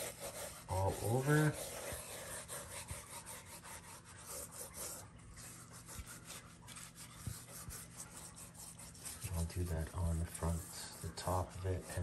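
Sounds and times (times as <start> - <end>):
hand rubbing seasoning into meat: 0.0 - 12.0.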